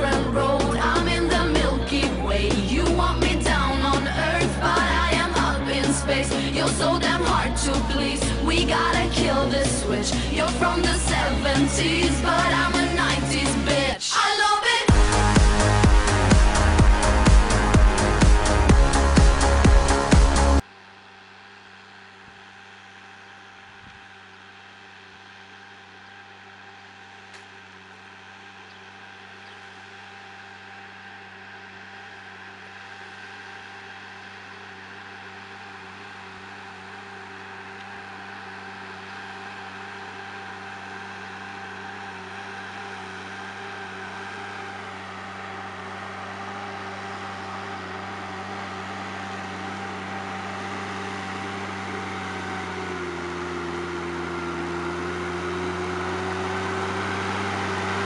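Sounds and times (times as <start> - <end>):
tractor engine running under load: 0.0 - 14.0, 14.7 - 58.0.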